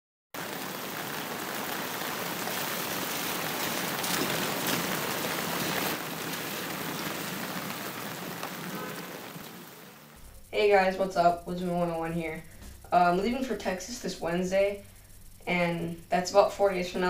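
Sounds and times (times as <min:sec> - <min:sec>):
steady hissing noise: 0:00.4 - 0:17.0.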